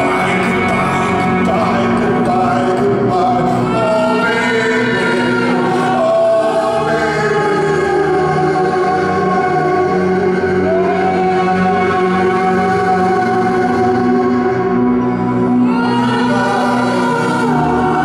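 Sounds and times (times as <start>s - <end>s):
women singing sustained harmonies: 0.0s - 18.0s.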